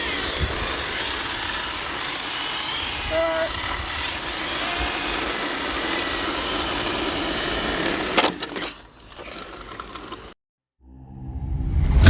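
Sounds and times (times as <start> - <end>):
electric rc car motor: 0.0 - 10.4.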